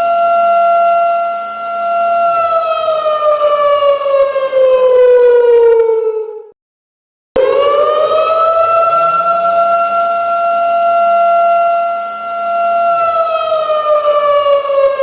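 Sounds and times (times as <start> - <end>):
siren wailing: 0.0 - 6.6, 7.4 - 15.0.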